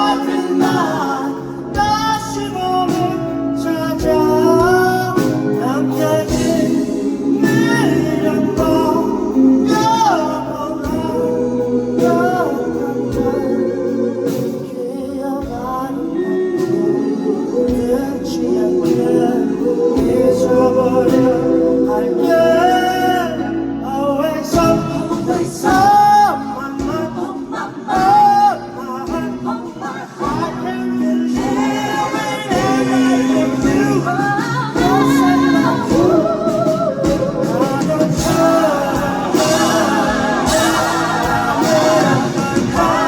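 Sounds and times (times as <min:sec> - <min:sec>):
live band playing pop ballad: 0:00.0 - 0:43.0
person singing with vibrato: 0:00.0 - 0:43.0.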